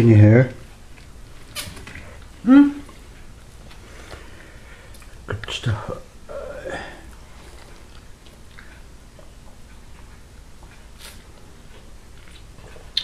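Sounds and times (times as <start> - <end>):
low steady hum: 0.0 - 13.0
people chewing: 0.7 - 5.5, 7.0 - 13.0.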